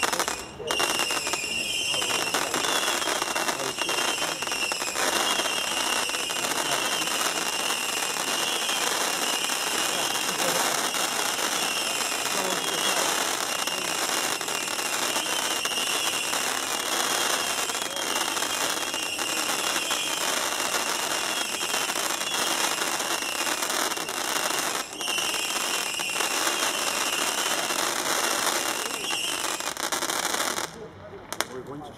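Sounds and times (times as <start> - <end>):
firework cake crackling: 0.0 - 31.9.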